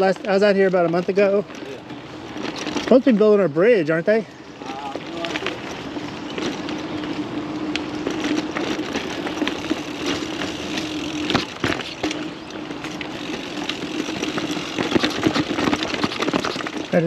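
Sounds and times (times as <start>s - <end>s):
bike knocks and rattles: 0.0s - 3.5s, 4.6s - 17.0s
bike buzz on dirt trail: 0.0s - 17.0s.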